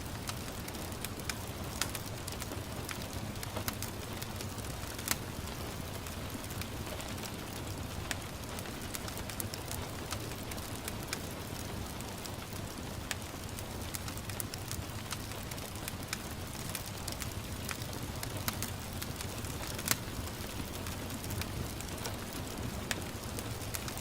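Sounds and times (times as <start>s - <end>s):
gentle rain patter: 0.0s - 24.0s
wood fire crackling: 0.0s - 24.0s.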